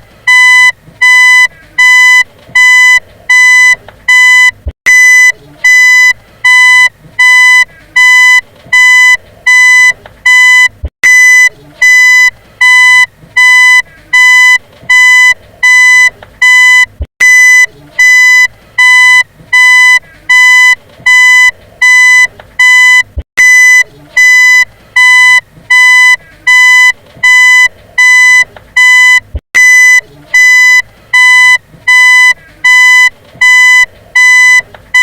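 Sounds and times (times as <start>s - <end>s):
reversing warning beeper: 0.3s - 35.0s.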